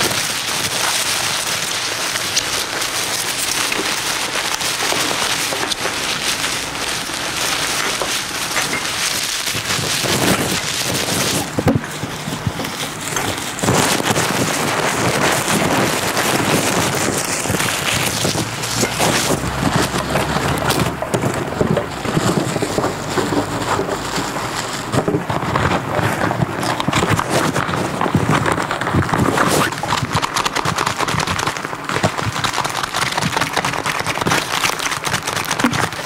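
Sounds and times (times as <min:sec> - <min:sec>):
packaging crumpling and crackling: 0:00.0 - 0:36.0.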